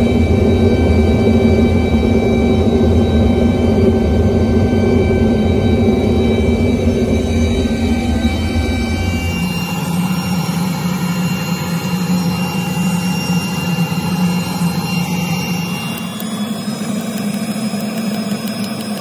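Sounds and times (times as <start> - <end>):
deep rumble: 0.0 - 15.8
low hum: 0.0 - 19.0.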